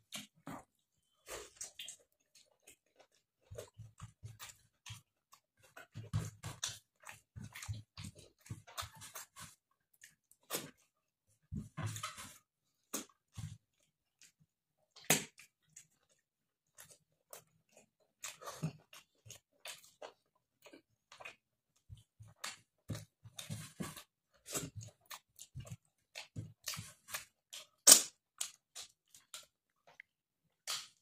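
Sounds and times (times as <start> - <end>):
person chewing with lip smacks: 0.1 - 10.9, 12.8 - 31.0.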